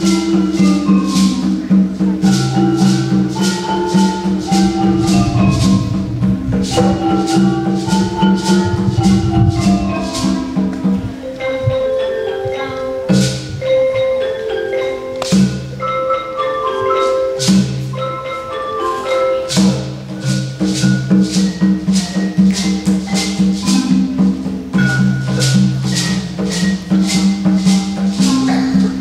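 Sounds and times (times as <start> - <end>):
bass xylophone pattern: 0.0 - 29.0
shaker beat: 0.0 - 29.0
xylophone ensemble playing: 0.0 - 29.0.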